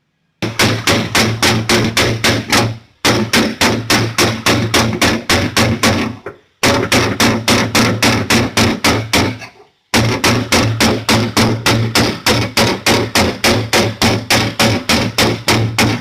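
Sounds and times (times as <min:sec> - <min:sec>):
hammer striking sheet metal: 0:00.4 - 0:16.0.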